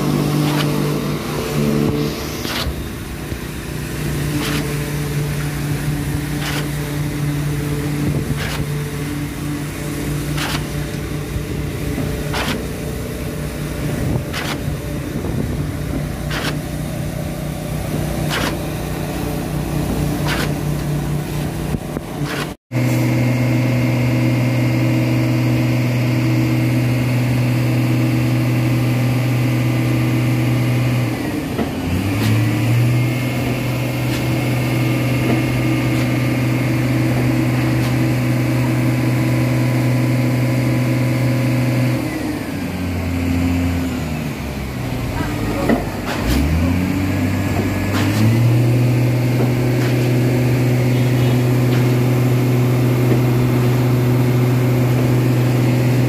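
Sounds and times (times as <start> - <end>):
diesel engines droning: 0.0 - 56.0.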